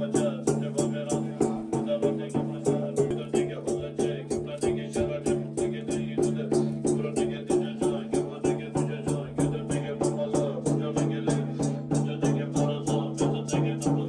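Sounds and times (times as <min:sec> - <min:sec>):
quick even beat: 0:00.0 - 0:14.0.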